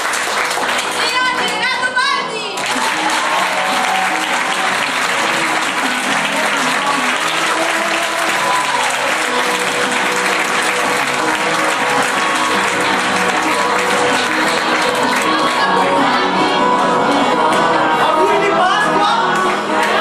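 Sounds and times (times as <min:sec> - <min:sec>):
audience clapping: 0:00.0 - 0:16.1, 0:19.3 - 0:20.0
music playing: 0:00.0 - 0:20.0.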